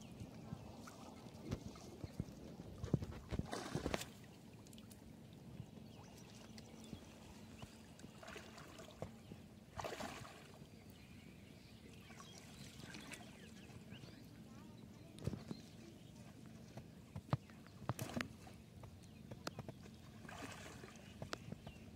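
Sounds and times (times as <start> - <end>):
water sloshing and splashing: 0.0 - 10.7, 11.8 - 14.4, 15.0 - 21.9.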